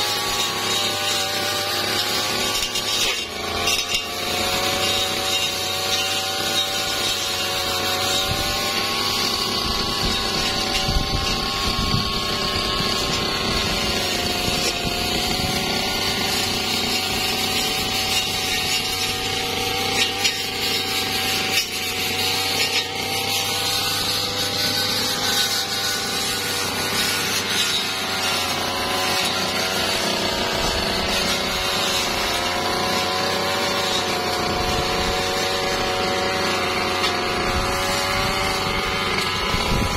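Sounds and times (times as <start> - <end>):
brush cutter engine cutting wood: 0.0 - 39.9.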